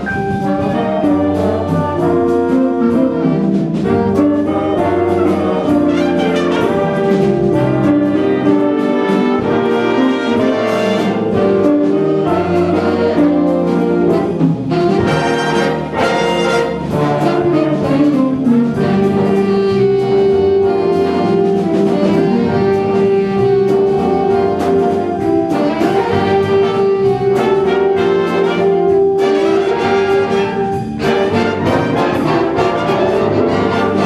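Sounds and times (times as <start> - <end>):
big band playing swing: 0.0 - 34.0.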